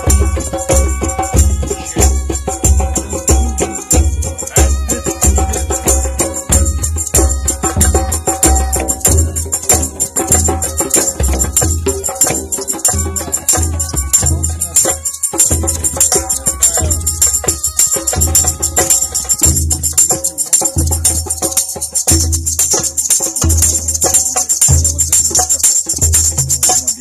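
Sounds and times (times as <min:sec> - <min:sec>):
deep drum beats: 0:00.0 - 0:27.0
held melodic notes: 0:00.0 - 0:27.0
tambourine and shaker rattle: 0:00.0 - 0:27.0.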